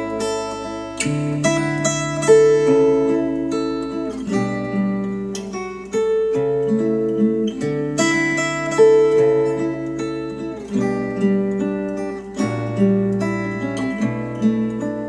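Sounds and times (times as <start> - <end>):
acoustic guitar music over speakers: 0.0 - 15.0.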